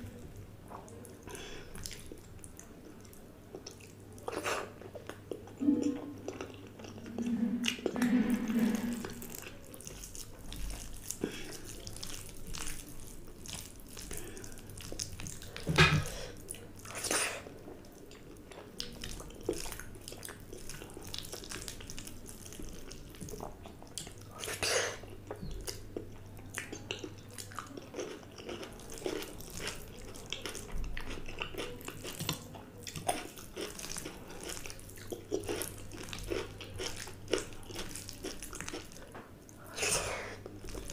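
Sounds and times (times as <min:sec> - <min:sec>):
faint low hum: 0:00.0 - 0:40.9
chewing: 0:00.2 - 0:08.2, 0:08.8 - 0:40.9.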